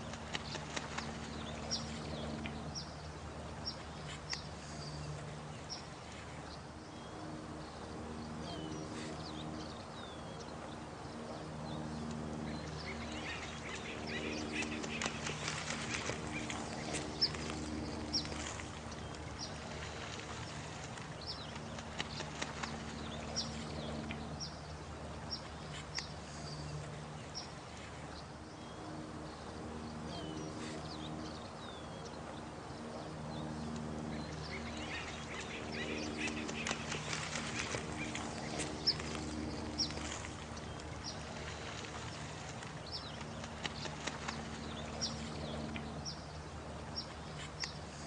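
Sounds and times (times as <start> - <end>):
running water: 0.0 - 48.0.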